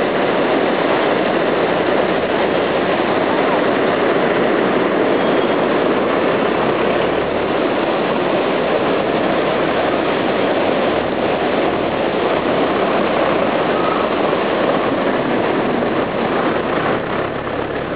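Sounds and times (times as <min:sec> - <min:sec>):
stream rushing over boulders: 0:00.0 - 0:17.9.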